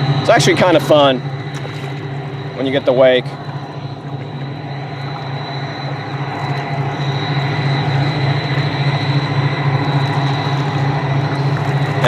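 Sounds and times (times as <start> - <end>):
boat diesel engines droning: 0.0 - 12.0.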